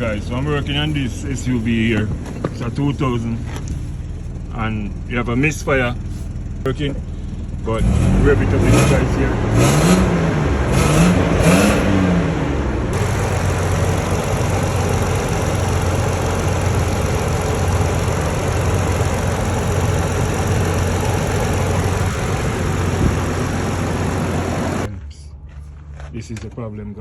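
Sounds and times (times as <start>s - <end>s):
car engine misfiring: 0.0s - 24.9s.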